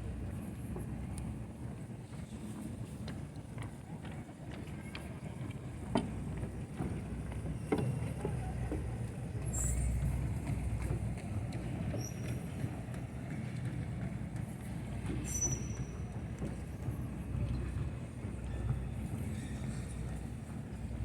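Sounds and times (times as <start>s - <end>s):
urban ambience rumble: 0.0s - 21.0s.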